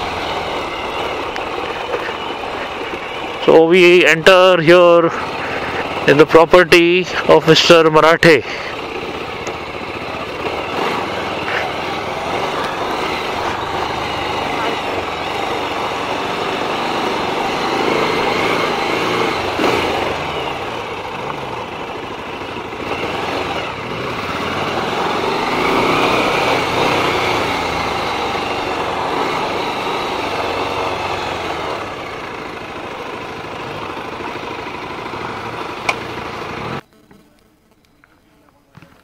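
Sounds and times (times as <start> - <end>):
motorcycle engine running: 0.0 - 36.9
road noise: 0.0 - 39.0.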